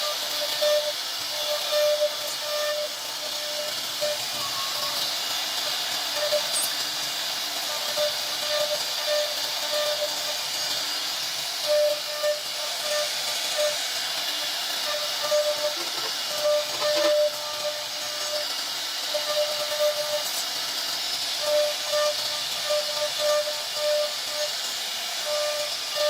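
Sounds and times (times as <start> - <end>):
machine whine: 0.0 - 26.0
router spindle cutting wood: 0.0 - 26.0.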